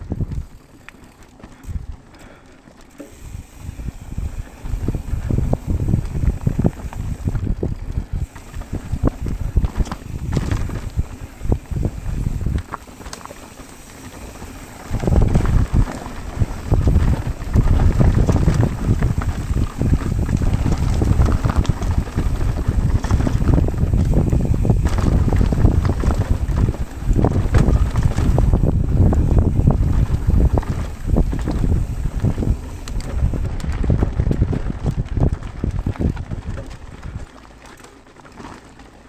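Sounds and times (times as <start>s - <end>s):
wind buffeting microphone: 0.0s - 0.8s, 1.5s - 2.2s, 3.2s - 37.6s
bike rattling over dirt trail: 0.0s - 39.0s.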